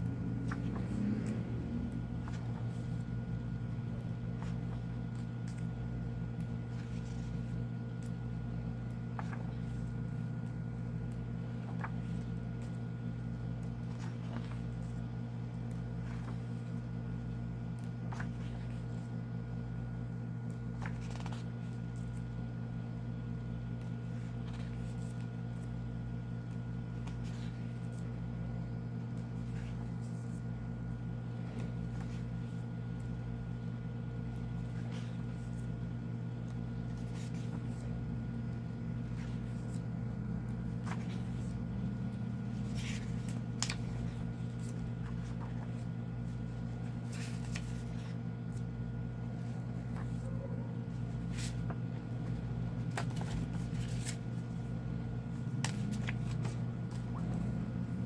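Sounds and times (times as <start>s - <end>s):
book pages turning: 0.0s - 58.0s
low machine hum: 0.0s - 58.0s.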